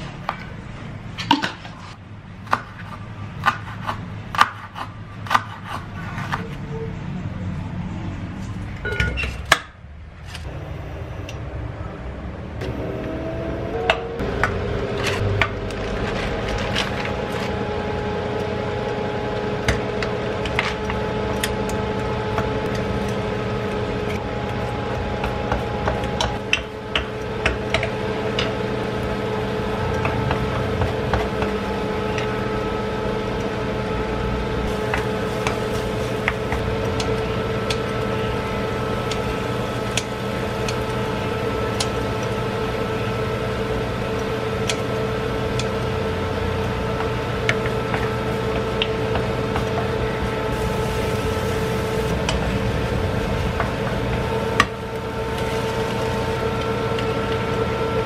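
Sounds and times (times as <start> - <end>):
cooktop hum and whine: 0.0 - 58.0.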